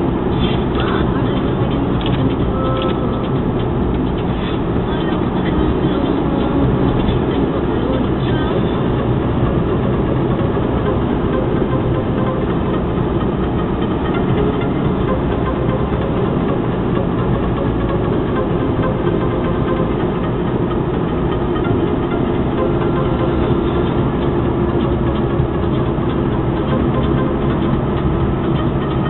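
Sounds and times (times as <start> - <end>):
low engine hum: 0.0 - 29.0
tyre road noise: 0.0 - 29.0.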